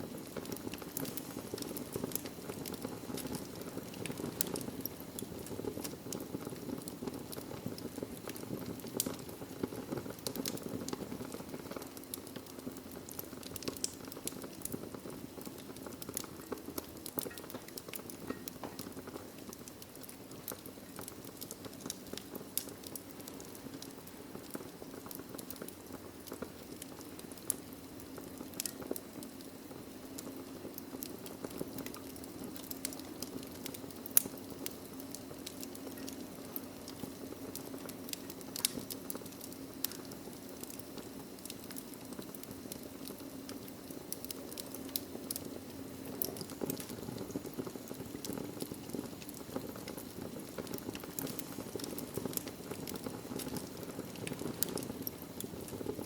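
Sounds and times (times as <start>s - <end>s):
fire crackling and popping: 0.0s - 56.0s
logs burning in fireplace: 0.0s - 56.0s.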